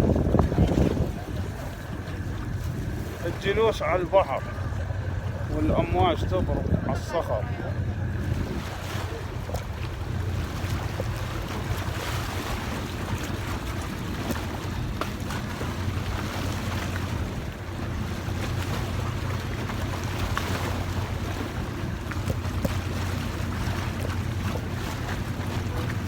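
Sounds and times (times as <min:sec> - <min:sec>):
waves splashing against rocks: 0:00.0 - 0:26.0
wind rumble on microphone: 0:00.0 - 0:26.0.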